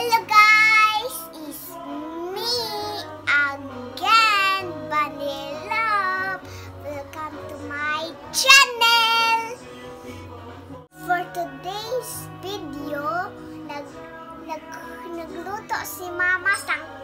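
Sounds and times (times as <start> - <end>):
girl singing: 0.0 - 9.6, 10.9 - 17.0
backing music with low notes: 0.0 - 17.0.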